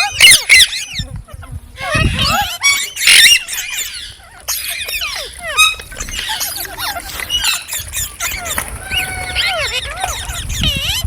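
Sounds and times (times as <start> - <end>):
parrots chirping and squeaking: 0.0 - 11.0.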